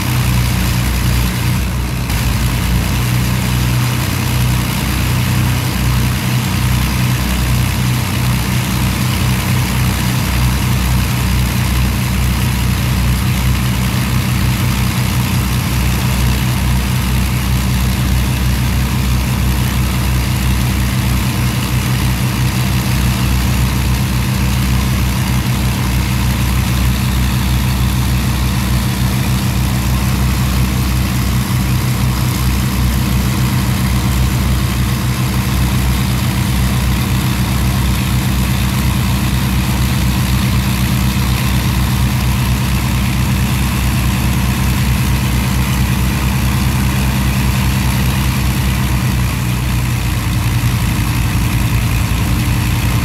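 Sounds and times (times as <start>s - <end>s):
piston aircraft engines idling: 0.0s - 53.0s.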